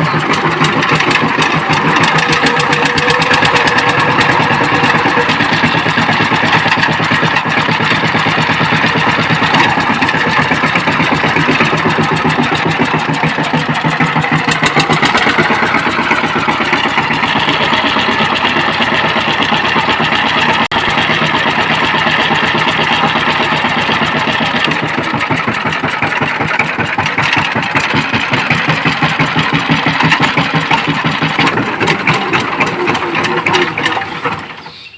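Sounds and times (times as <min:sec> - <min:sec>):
power tiller engine chugging: 0:00.0 - 0:34.9.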